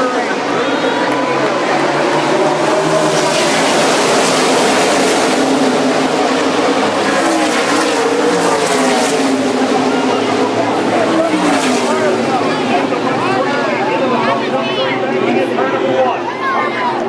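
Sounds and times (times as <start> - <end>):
racing car engines roaring: 0.0 - 17.0.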